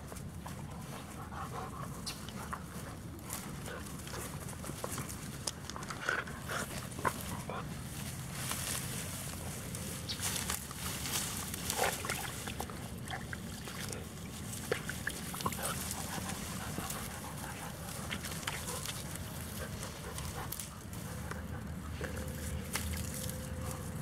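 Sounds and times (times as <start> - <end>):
rustling through grass: 0.0 - 24.0.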